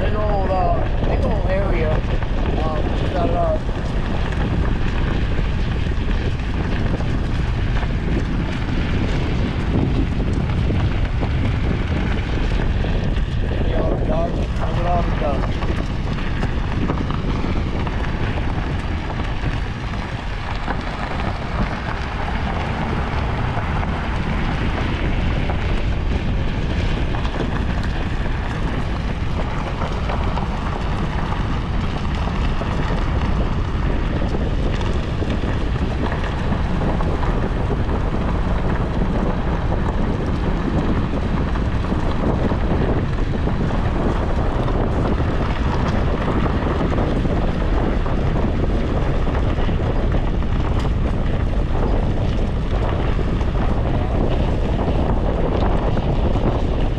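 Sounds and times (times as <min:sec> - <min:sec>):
vehicle engine and road noise: 0:00.0 - 0:56.9
wind buffeting microphone: 0:00.0 - 0:56.9.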